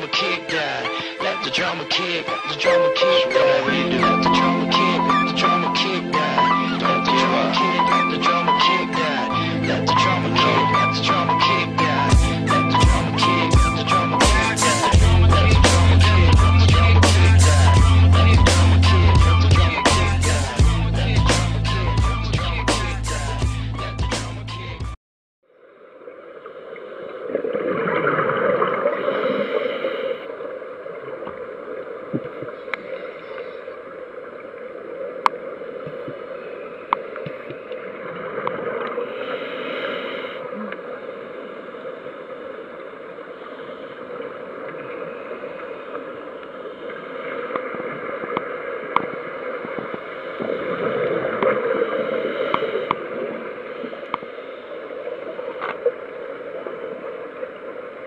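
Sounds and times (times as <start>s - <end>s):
muffled underwater rush: 0.0s - 24.0s, 25.6s - 58.0s.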